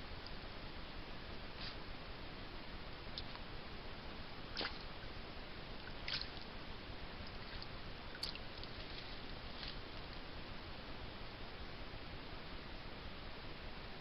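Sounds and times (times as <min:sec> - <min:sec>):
microphone hiss: 0:00.0 - 0:14.0.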